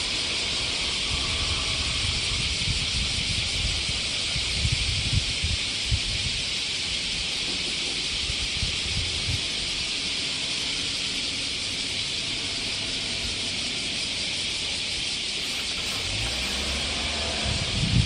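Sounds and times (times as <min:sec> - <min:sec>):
cicada chorus: 0:00.0 - 0:18.0.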